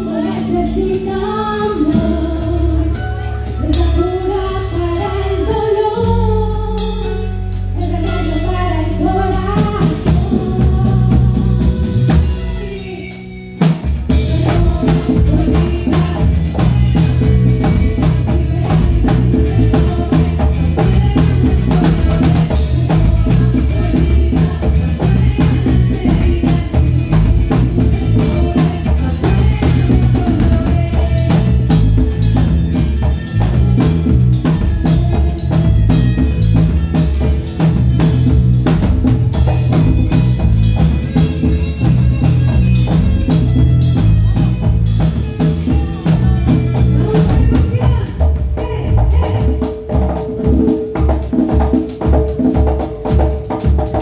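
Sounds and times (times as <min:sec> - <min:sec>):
person singing: 0:00.0 - 0:37.8, 0:40.8 - 0:53.3
drums: 0:00.0 - 0:54.0
live band playing: 0:00.0 - 0:54.0.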